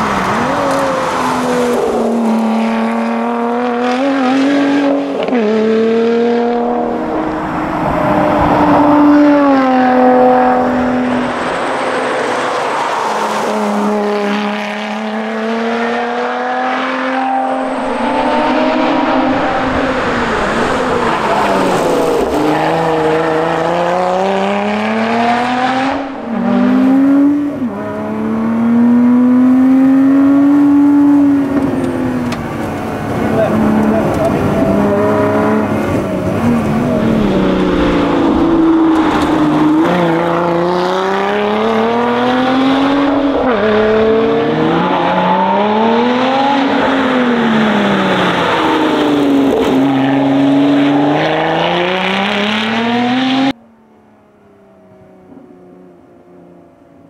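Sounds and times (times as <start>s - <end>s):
car engine revving: 0.0s - 53.6s.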